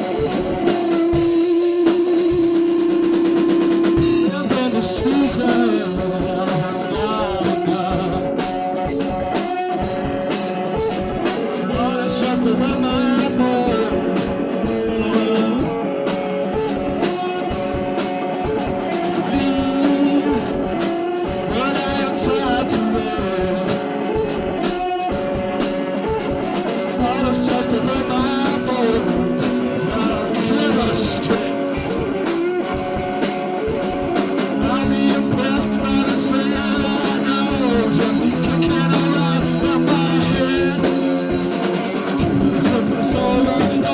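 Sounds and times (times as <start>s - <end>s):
electric guitar: 0.0s - 43.9s
steady drum beat: 0.0s - 43.9s.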